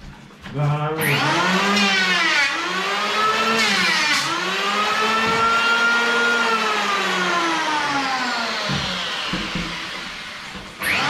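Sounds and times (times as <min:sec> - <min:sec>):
electric jigsaw cutting wood: 0:01.0 - 0:11.0.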